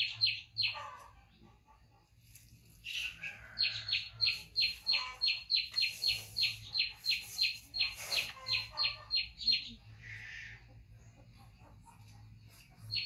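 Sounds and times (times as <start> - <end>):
bird chirping: 0.0 - 1.6, 2.7 - 11.5, 12.1 - 13.0.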